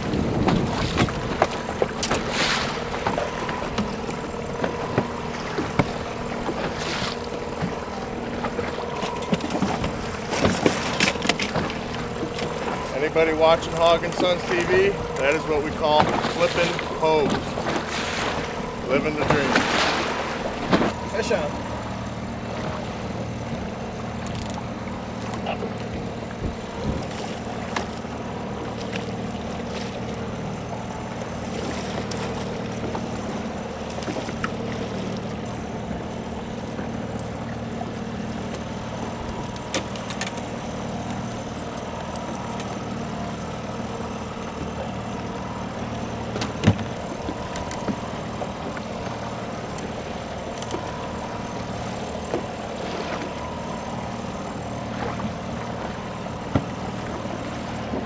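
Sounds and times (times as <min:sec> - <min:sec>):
clicks and knocks on boat: 0:00.0 - 0:58.0
outboard motor running: 0:00.0 - 0:58.0
wind and water noise: 0:00.0 - 0:58.0.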